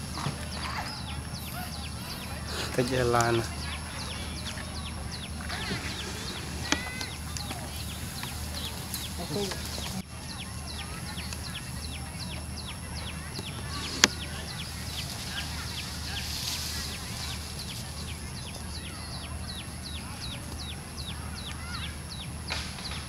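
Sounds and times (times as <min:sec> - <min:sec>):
animal chirping: 0:00.0 - 0:22.3
steady low hum: 0:00.0 - 0:23.0.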